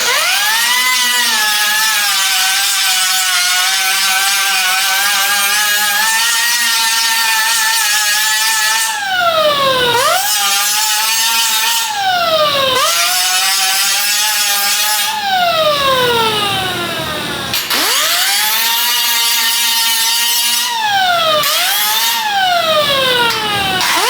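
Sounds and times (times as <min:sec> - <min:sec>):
power tool high whine: 0:00.0 - 0:24.0.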